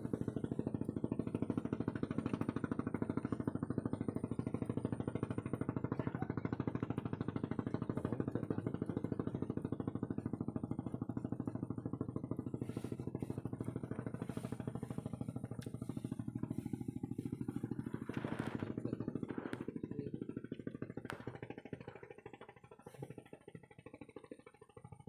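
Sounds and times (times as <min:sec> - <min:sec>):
small engine puttering: 0:00.0 - 0:25.0.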